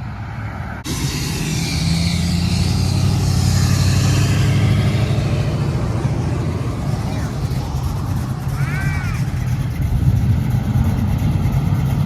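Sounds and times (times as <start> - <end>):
car engine driving off: 0.5 - 12.0.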